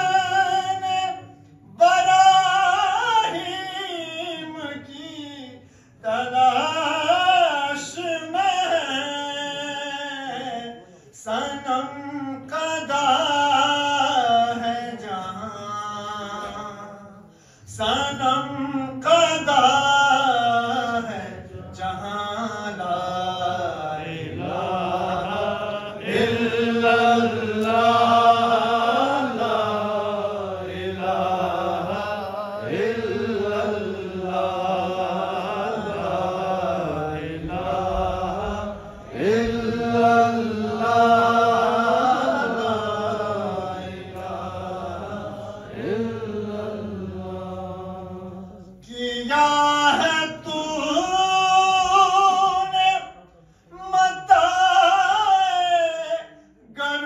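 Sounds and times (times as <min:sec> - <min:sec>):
man chanting: 0:00.0 - 0:57.0.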